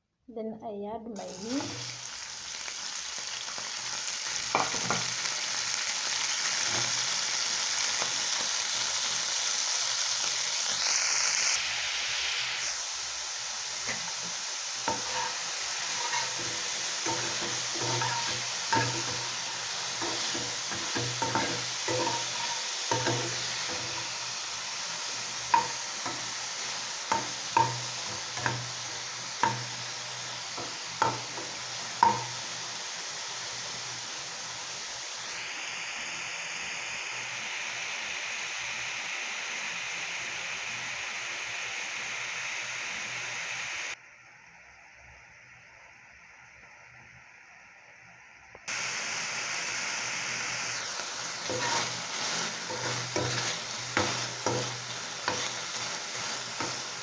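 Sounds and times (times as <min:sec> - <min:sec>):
meat sizzling in a pan: 0:00.7 - 0:44.0, 0:48.7 - 0:57.0.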